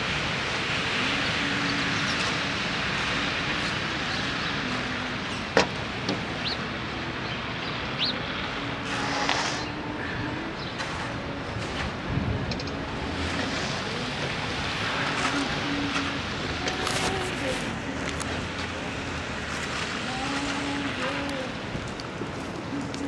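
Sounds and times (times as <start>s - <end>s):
traffic hiss: 0.0s - 23.0s.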